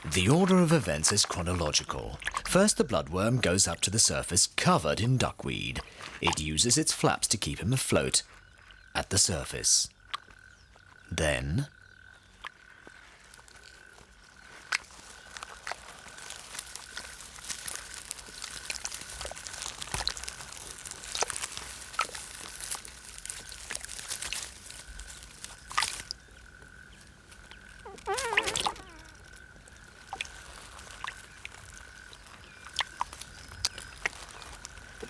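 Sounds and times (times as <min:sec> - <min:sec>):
small wet clicks and crackles: 0:00.0 - 0:11.1, 0:11.7 - 0:35.0
frog call: 0:05.5 - 0:35.0.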